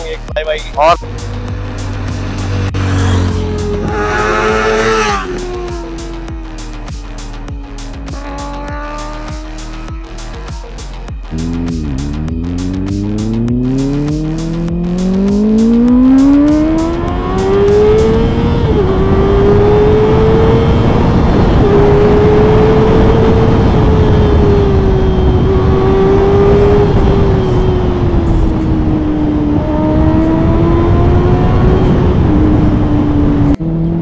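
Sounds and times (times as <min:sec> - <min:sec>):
motorcycle engine accelerating: 0:00.8 - 0:34.0.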